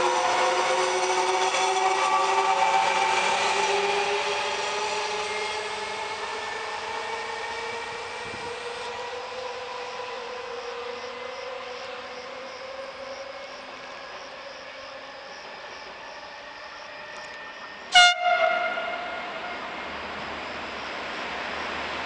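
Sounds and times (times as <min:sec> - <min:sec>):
electric locomotive whine: 0:00.0 - 0:22.0.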